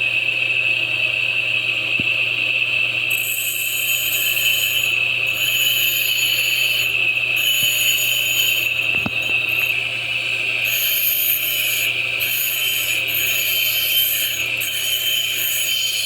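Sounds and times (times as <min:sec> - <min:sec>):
bench grinder motor humming: 0:03.0 - 0:16.0
metal grinding on wheel: 0:03.1 - 0:16.0.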